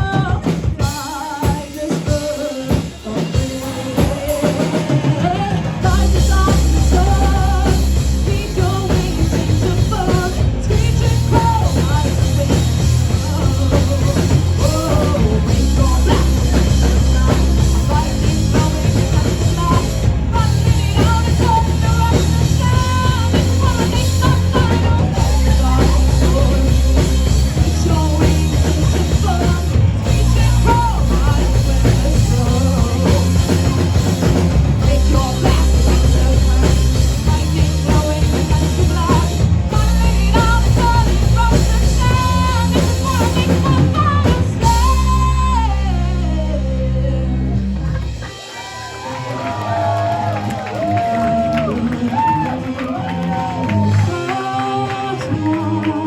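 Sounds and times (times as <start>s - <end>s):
heavy bass and drums: 0.0s - 56.0s
live rock band: 0.0s - 56.0s
person singing: 0.0s - 56.0s.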